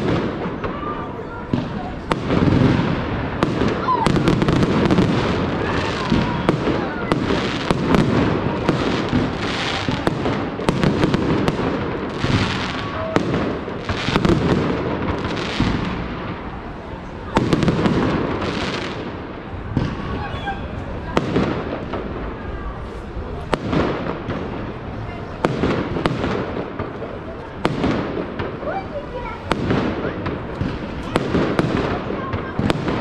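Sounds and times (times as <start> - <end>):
fireworks crackling: 0.0 - 33.0
fireworks cracks and bangs: 0.0 - 33.0.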